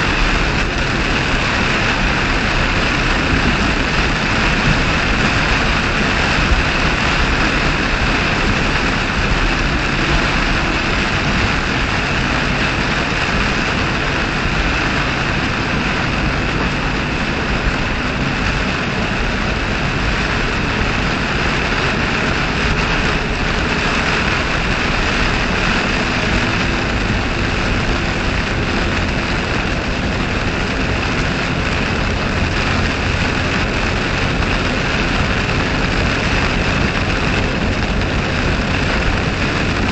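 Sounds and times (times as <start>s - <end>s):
heavy rain on car windshield: 0.0s - 39.9s
tyre noise on wet road: 0.0s - 39.9s
wind beating on car: 0.0s - 39.9s.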